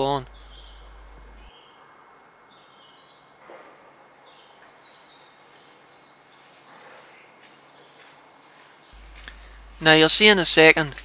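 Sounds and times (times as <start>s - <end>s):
small birds chirping: 0.0s - 11.0s
steady outdoor hiss: 0.0s - 11.0s.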